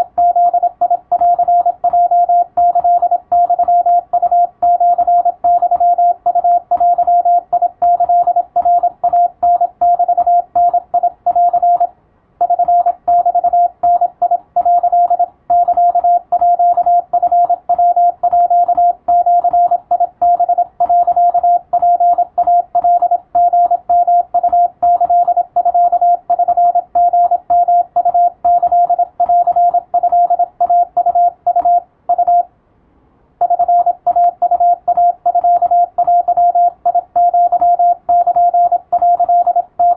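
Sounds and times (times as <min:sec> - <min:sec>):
morse code beeps: 0:00.0 - 0:32.5, 0:33.4 - 0:39.9.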